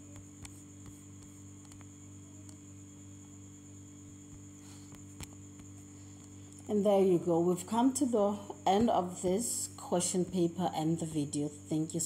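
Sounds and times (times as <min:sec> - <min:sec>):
electrical mains hum: 0:00.0 - 0:12.0
high faint whine: 0:00.0 - 0:12.0.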